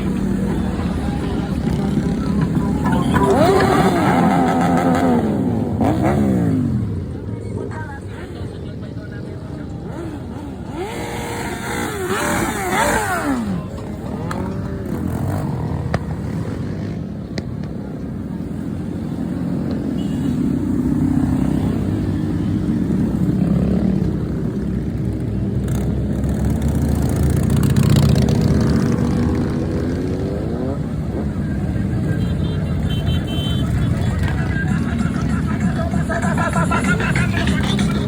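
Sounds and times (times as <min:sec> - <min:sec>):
motorcycle engines rumbling: 0:00.0 - 0:38.0.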